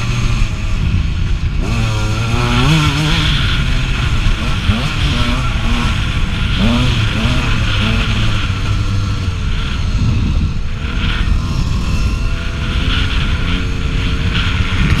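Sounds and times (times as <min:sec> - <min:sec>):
dirt bike engine running hard: 0:00.0 - 0:15.0.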